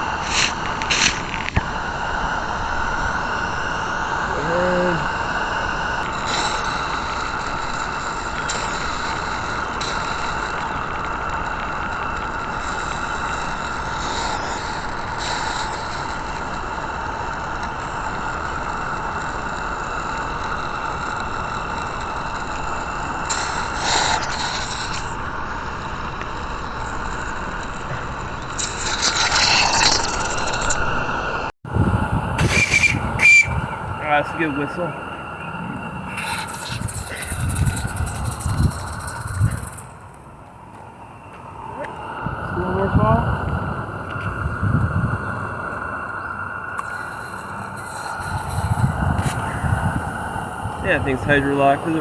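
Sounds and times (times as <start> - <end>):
steam locomotive hissing: 0.0 - 28.0, 31.7 - 52.0
bursts of steam: 0.0 - 52.0.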